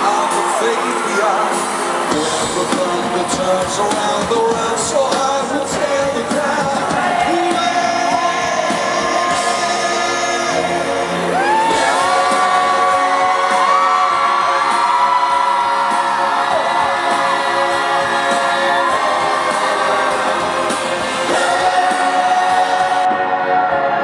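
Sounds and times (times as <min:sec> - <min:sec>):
crowd whooping: 0:00.0 - 0:05.2, 0:07.0 - 0:24.0
pop band playing live: 0:00.0 - 0:24.0.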